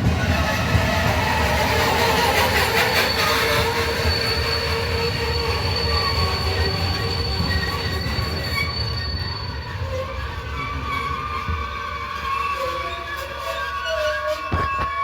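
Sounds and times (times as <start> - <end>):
train rumbling on rails: 0.0 - 15.0
high-pitched wheel squeal: 0.2 - 15.0.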